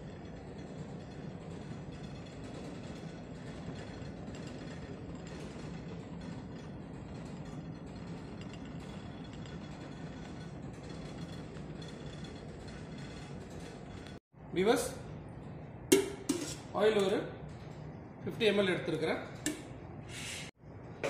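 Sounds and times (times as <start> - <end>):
ship machinery hum and rattle: 0.0 - 21.0.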